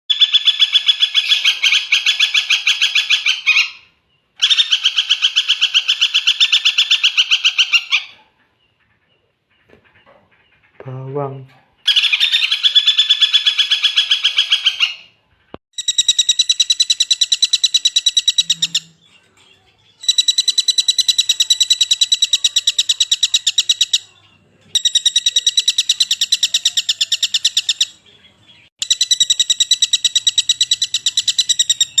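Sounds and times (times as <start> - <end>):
woodpecker rattling trill: 0.1 - 10.8, 11.8 - 15.1, 15.7 - 28.1, 28.8 - 32.0.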